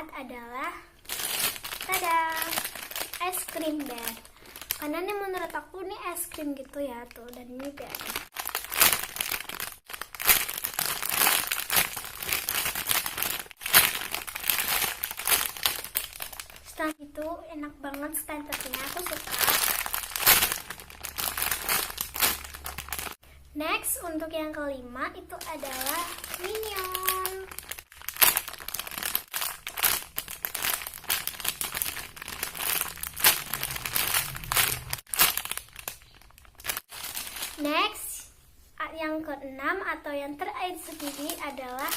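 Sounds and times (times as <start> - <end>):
plastic wrapping crinkling: 1.0 - 17.0, 17.9 - 23.2, 25.4 - 38.0, 40.6 - 41.9.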